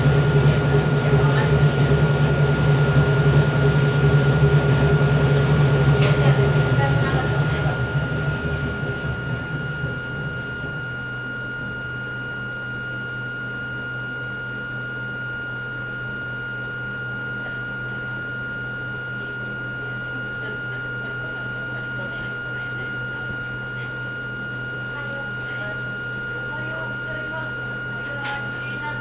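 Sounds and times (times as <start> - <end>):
electric railcar hum and whine: 0.0 - 29.0.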